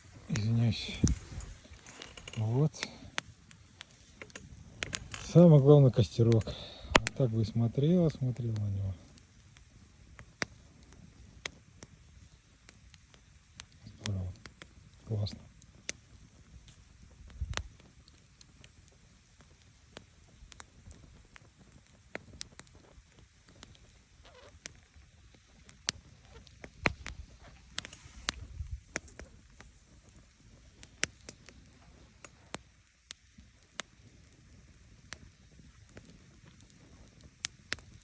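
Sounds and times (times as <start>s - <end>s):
campfire crackling: 0.0s - 38.0s.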